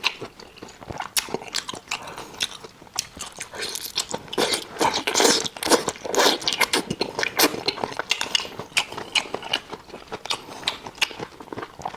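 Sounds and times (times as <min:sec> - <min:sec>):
person chewing: 0:00.0 - 0:11.9.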